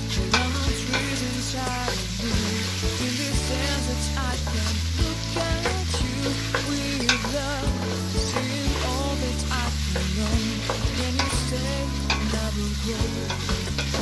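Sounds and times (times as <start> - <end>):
background music: 0.0 - 14.0
food sizzling: 0.0 - 14.0.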